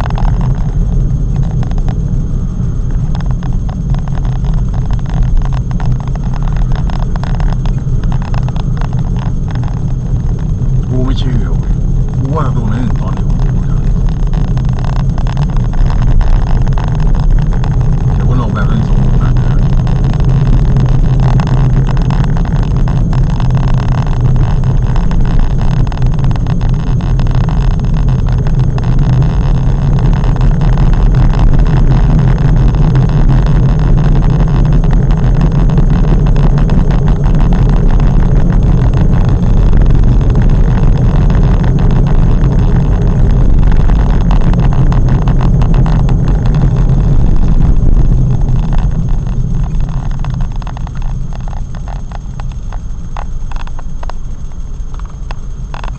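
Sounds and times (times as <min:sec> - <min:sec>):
car engine rumble from inside cabin: 0:00.0 - 0:55.9.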